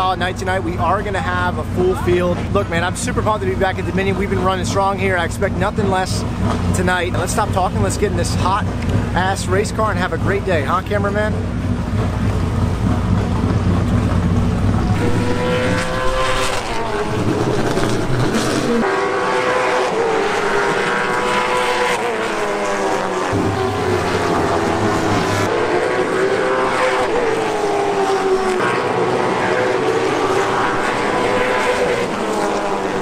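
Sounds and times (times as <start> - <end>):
race car engines passing: 0.0 - 33.0.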